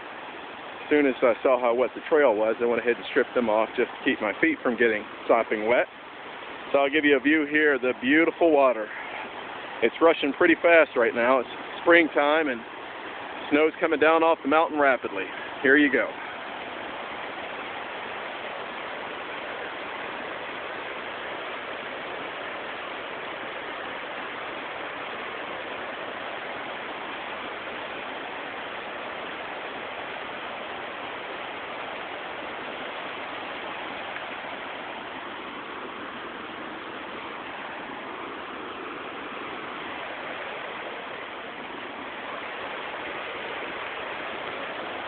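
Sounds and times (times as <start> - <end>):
rushing water of waterfall and stream: 0.0 - 45.0.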